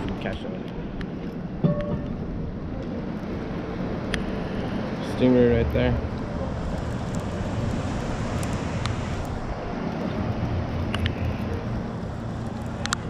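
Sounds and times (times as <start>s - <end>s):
sea noise: 0.0s - 13.0s
wind: 0.0s - 13.0s.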